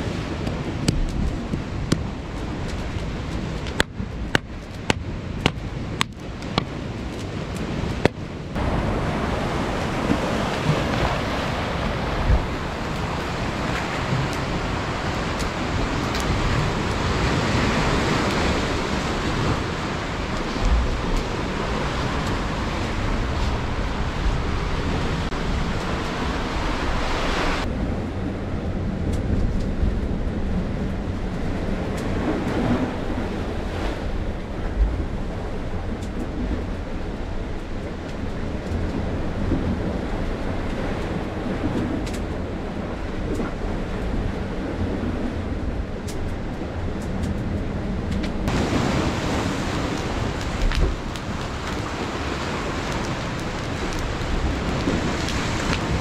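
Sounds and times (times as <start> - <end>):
waves washing on shore: 0.0 - 56.0
wind buffeting microphone: 0.0 - 56.0.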